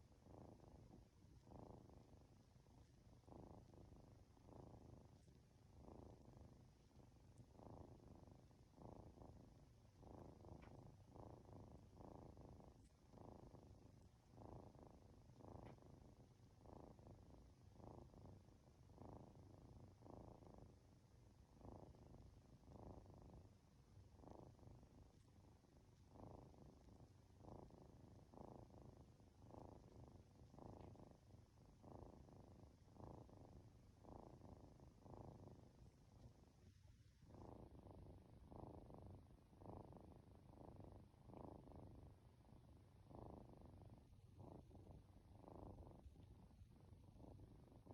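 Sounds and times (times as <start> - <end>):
kitten purring: 0.0 - 47.9.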